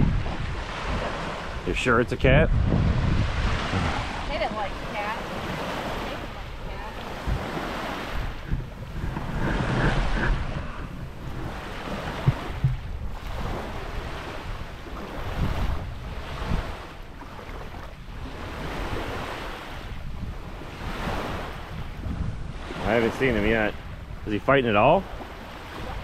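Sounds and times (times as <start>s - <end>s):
small waves lapping on shore: 0.0s - 26.0s
wind gusting on microphone: 0.0s - 26.0s.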